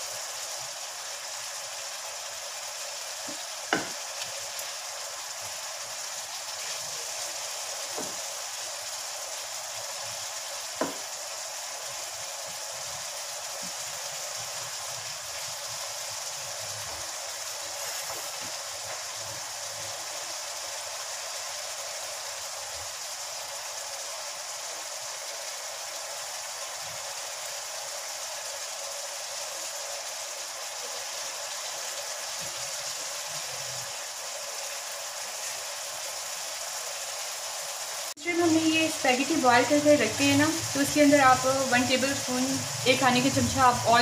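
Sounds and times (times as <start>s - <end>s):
food sizzling in a wok: 0.0s - 44.0s.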